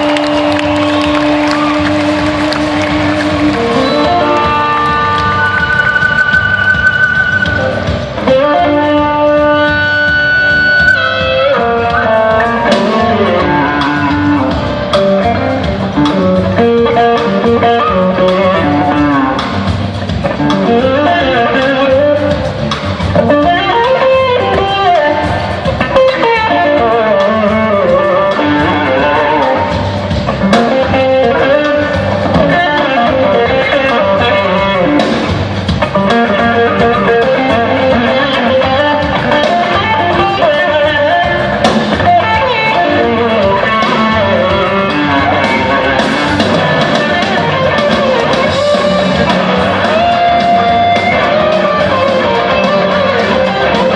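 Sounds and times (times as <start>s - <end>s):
electric guitar solo: 0.0s - 53.9s
live rock band playing: 0.0s - 53.9s.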